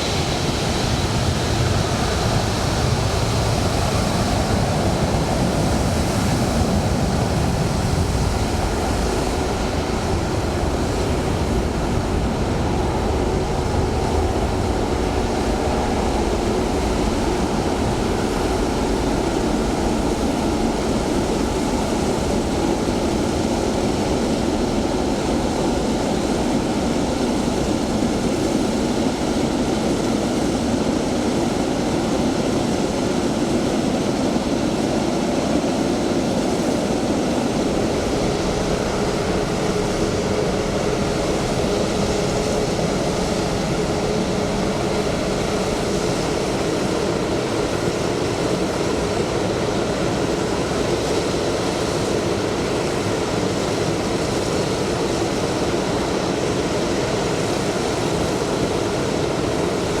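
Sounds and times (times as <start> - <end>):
jet engines running: 0.0 - 60.0.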